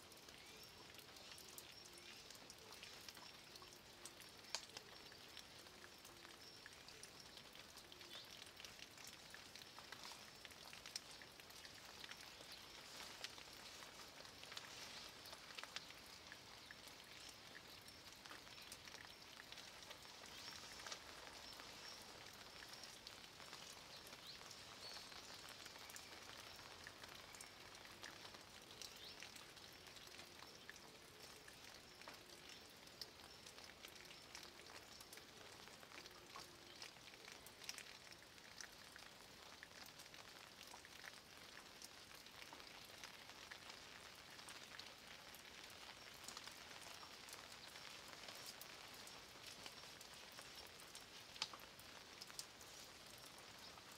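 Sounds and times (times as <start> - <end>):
drops dripping from stones: 0.0 - 53.9
light rain falling: 0.0 - 53.9.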